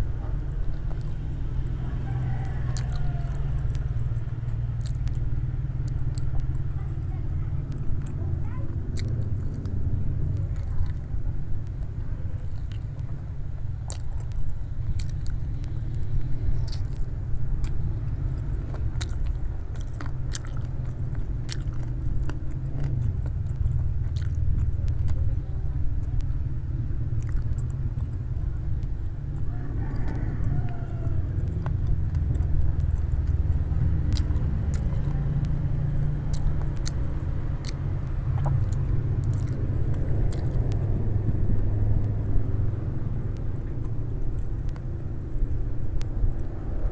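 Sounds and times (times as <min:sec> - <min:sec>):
chewing and biting food: 0:00.0 - 0:46.9
low rumble: 0:00.0 - 0:46.9
mouth clicks: 0:02.7 - 0:07.0, 0:07.6 - 0:13.2, 0:13.8 - 0:46.9.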